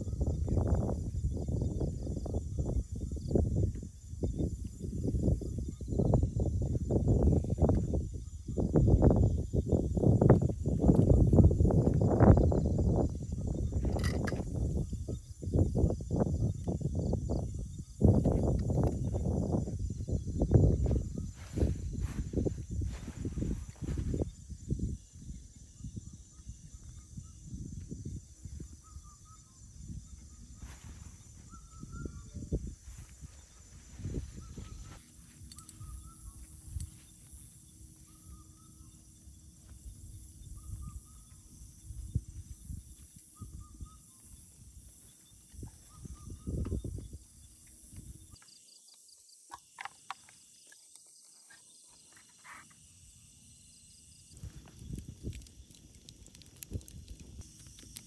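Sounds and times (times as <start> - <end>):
high insect drone: 0.0 - 58.0
soft chirps: 10.3 - 58.0.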